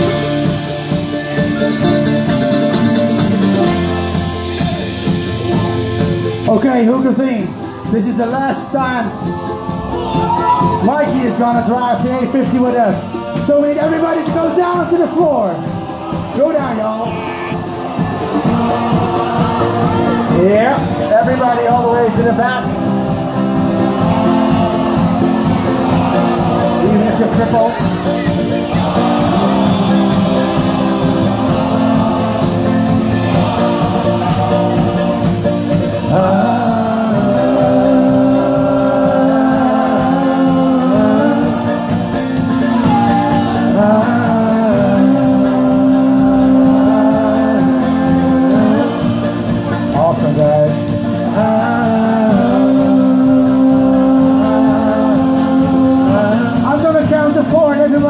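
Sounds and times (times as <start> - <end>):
folk-rock band playing: 0.0 - 58.0
person singing: 7.2 - 57.5.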